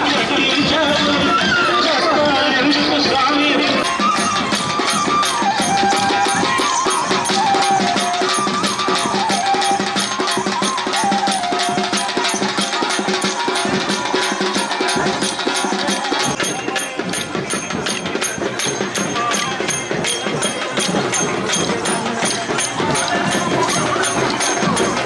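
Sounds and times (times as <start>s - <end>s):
fast steady drumming: 0.0s - 25.0s
wavering melody: 3.8s - 25.0s.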